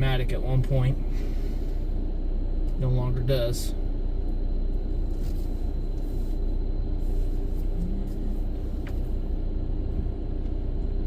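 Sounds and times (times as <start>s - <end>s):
car idling low rumble: 0.0s - 11.0s
short low hum: 0.0s - 11.0s.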